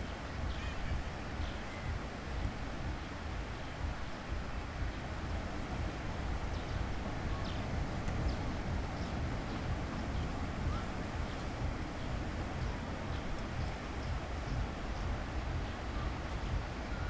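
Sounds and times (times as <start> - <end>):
surf washing: 0.0 - 17.0
wind rumble on microphone: 0.0 - 17.0.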